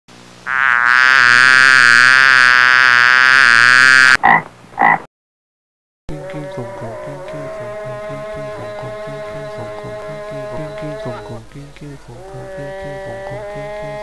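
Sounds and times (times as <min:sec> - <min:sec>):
frog croaking: 0:00.4 - 0:05.1, 0:06.1 - 0:14.0.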